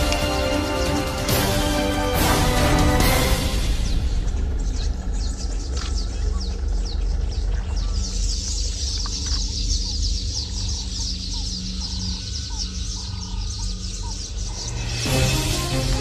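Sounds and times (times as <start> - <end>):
birds chirping: 0.0 - 16.0
music: 0.0 - 16.0
low rumble: 2.6 - 16.0.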